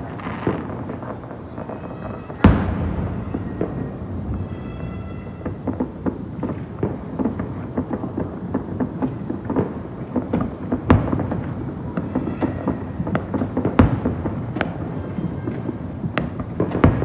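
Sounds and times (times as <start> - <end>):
fireworks bangs: 0.0 - 17.0
loud firework boom: 0.0 - 17.0.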